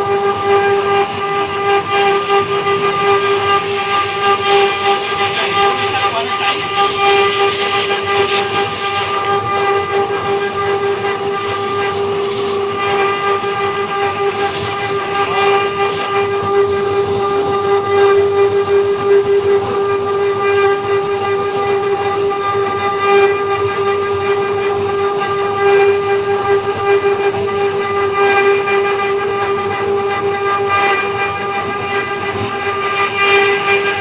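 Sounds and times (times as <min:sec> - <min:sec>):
router spindle high whine: 0:00.0 - 0:34.0.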